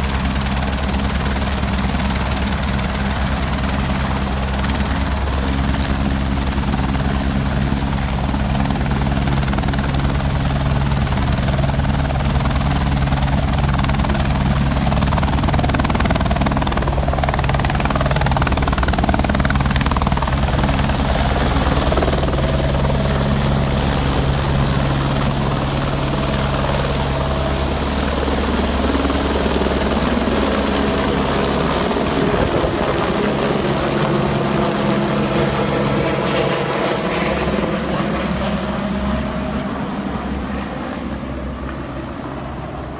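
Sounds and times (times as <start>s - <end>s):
helicopter rotor and engine: 0.0s - 42.9s.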